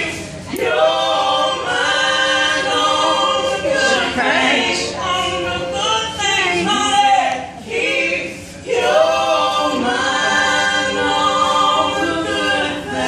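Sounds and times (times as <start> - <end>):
several voices singing: 0.0 - 13.0.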